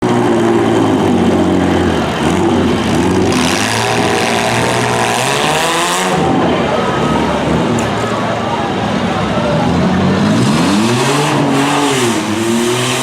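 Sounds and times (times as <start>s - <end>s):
car engines revving loud: 0.0s - 13.0s
dense rushing noise: 0.0s - 13.0s.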